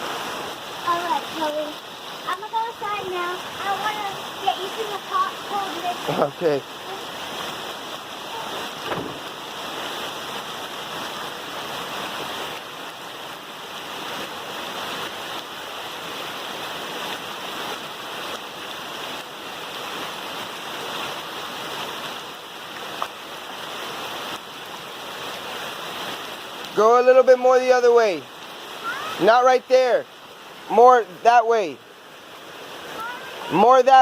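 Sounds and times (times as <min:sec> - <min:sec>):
floodwater rushing: 0:00.0 - 0:34.0
heavy rain pouring: 0:00.0 - 0:34.0.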